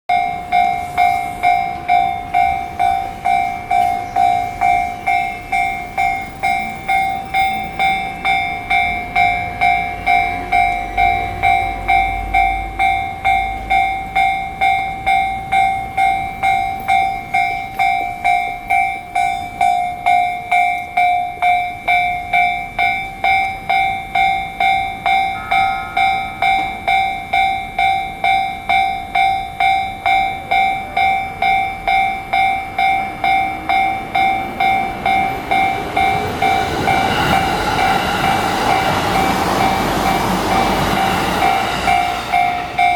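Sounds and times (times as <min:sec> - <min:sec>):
level-crossing alarm bell: 0:00.1 - 0:42.9
train rumble: 0:00.1 - 0:42.9.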